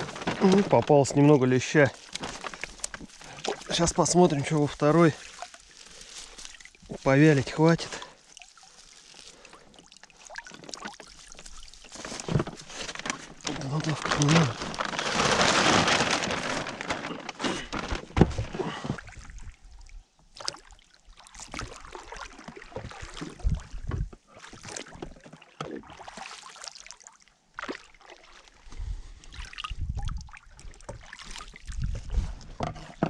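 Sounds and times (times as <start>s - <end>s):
water splashing and dripping: 0.0s - 16.6s, 18.9s - 33.0s.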